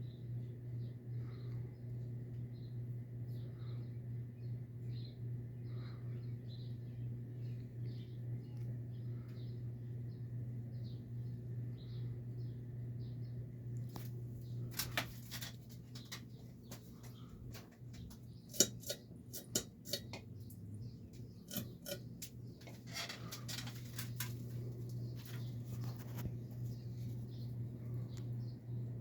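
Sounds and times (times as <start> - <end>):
ceiling fan motor humming: 0.0 - 29.0.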